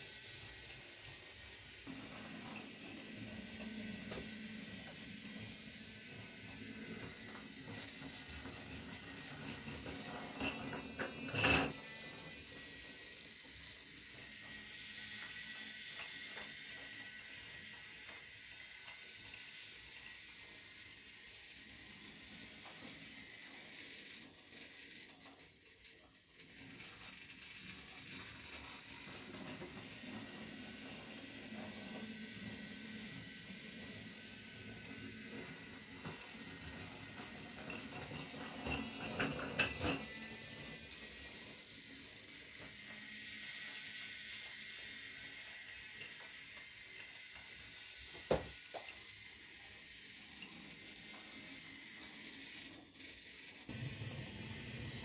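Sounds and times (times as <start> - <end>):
toy train hissing: 0.0 - 55.0.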